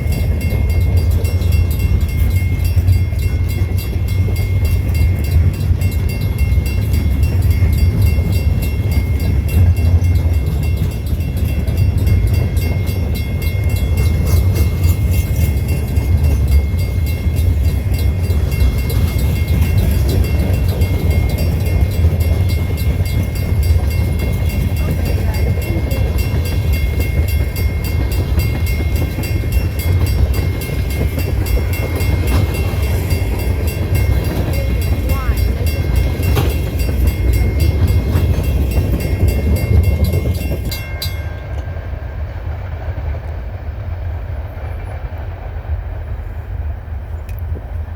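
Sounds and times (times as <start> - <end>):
train rolling past: 0.0 - 47.9.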